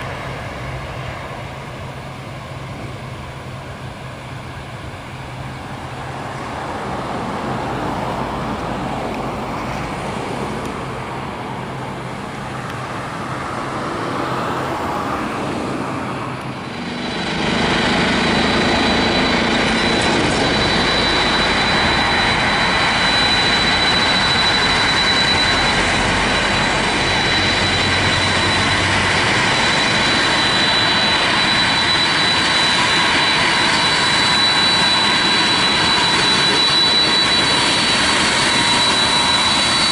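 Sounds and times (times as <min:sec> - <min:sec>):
high jet engine whine: 0:00.0 - 0:39.9
jet engine roar: 0:00.0 - 0:39.9.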